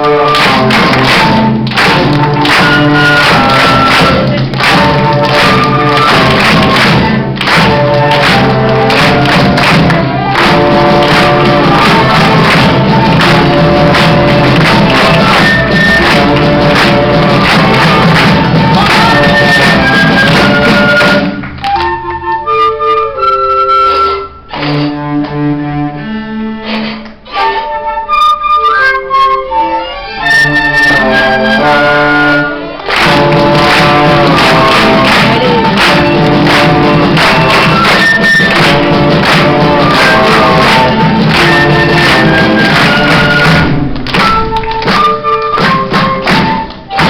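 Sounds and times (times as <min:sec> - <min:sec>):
bowed strings playing melody: 0:00.0 - 0:21.4, 0:23.1 - 0:47.0
school orchestra playing: 0:00.0 - 0:47.0.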